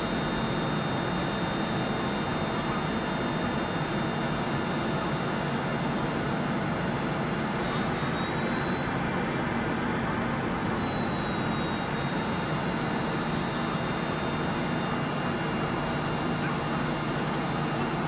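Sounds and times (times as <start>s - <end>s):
faint high whine: 0.0s - 18.0s
turboprop engine drone: 0.0s - 18.0s.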